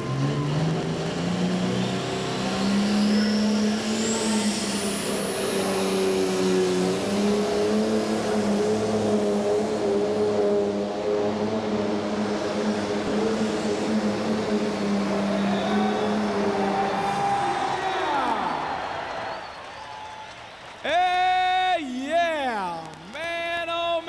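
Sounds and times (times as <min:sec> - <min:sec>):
turbo whistle: 0:00.0 - 0:09.2, 0:13.1 - 0:23.2
diesel tractor engine revving: 0:00.0 - 0:19.8.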